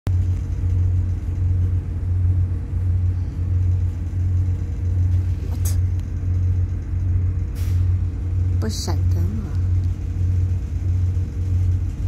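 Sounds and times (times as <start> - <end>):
train engine rumble: 0.1 - 12.0.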